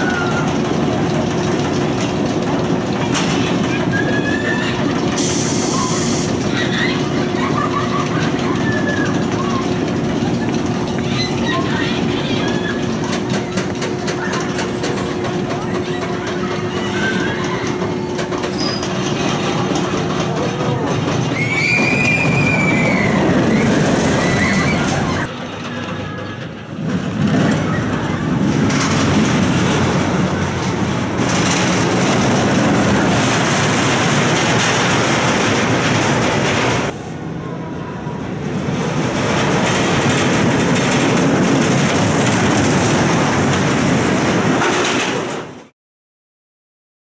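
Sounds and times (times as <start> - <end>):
roller coaster rumbling on track: 0.0 - 45.7
roller coaster wheels squealing: 0.0 - 45.7.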